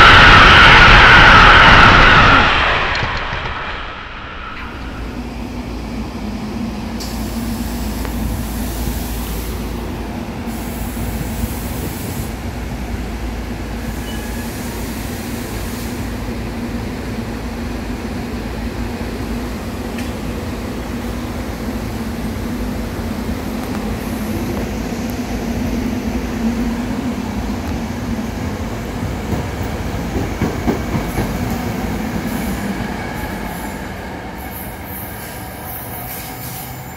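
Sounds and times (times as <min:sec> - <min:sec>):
electric train rolling past: 0:00.0 - 0:36.9.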